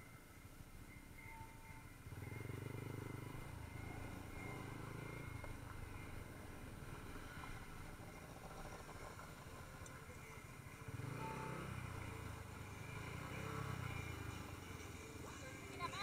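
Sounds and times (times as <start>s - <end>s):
motorcycle engine at low revs: 2.0s - 15.1s.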